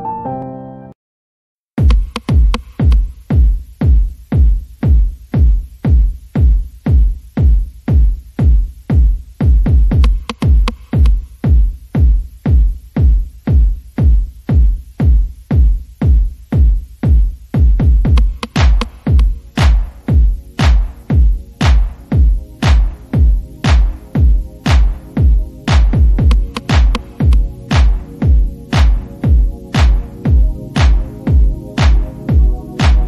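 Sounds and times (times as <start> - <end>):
electronic music with heavy kick: 1.8 - 33.0.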